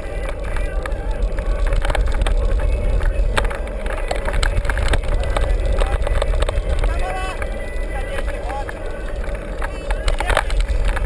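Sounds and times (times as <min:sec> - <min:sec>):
bike knocks and rattles: 0:00.0 - 0:11.0
wind rumble on microphone: 0:00.0 - 0:11.0.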